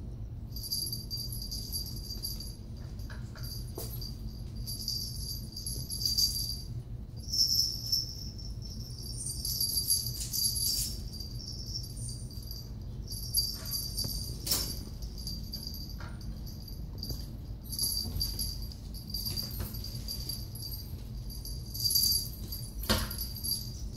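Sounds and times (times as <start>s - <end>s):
small bells jingling: 0.5s - 23.9s.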